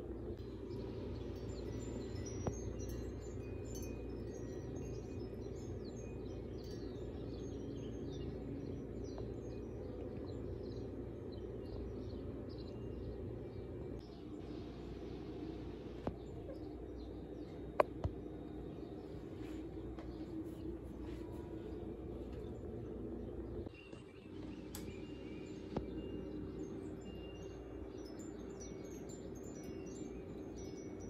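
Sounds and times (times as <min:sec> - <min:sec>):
low hum: 0:00.0 - 0:31.0
small birds chirping: 0:00.1 - 0:31.0.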